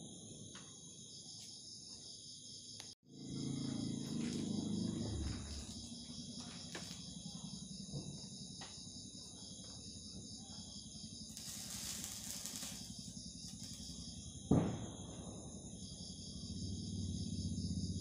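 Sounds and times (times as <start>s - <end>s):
night insects chirping: 0.0s - 18.0s.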